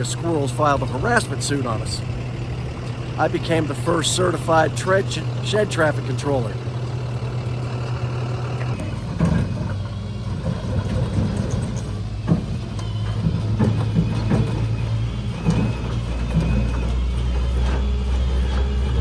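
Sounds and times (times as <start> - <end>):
deep drone: 0.0 - 19.0
knocks and clanks: 0.0 - 19.0
tow truck engine running: 0.0 - 19.0.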